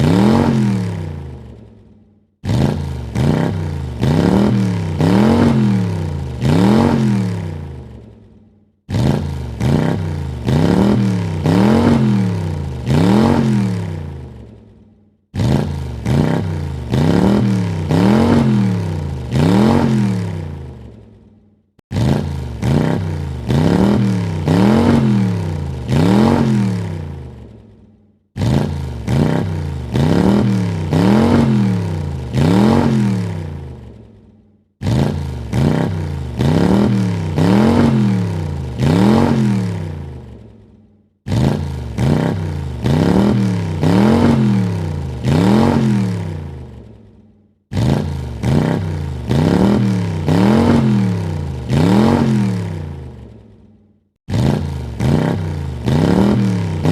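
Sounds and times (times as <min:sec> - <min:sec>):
car engine revving: 0:00.0 - 0:01.6, 0:02.4 - 0:08.1, 0:08.9 - 0:14.6, 0:15.3 - 0:21.1, 0:21.9 - 0:27.7, 0:28.4 - 0:34.1, 0:34.8 - 0:40.6, 0:41.3 - 0:46.9, 0:47.7 - 0:53.4, 0:54.3 - 0:56.9.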